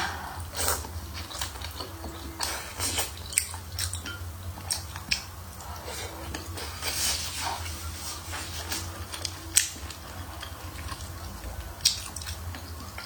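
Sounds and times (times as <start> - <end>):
wet crunchy chewing: 0.1 - 13.0.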